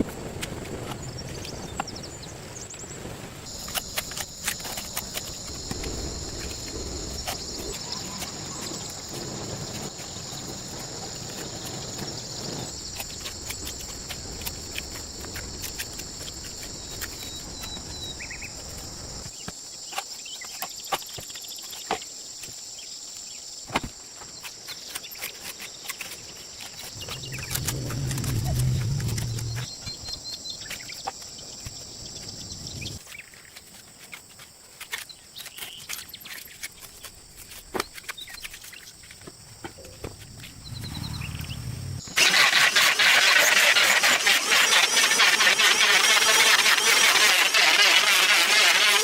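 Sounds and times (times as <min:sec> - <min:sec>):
high-pitched insect chorus: 0:03.5 - 0:49.0.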